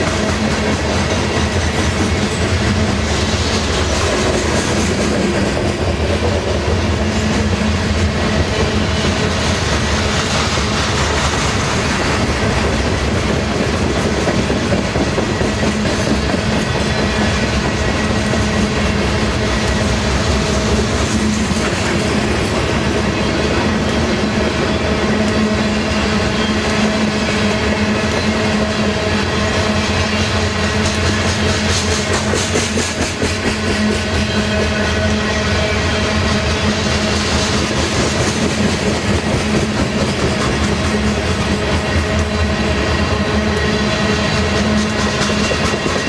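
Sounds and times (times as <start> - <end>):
freight train wheels rumbling on rails: 0.0 - 46.0.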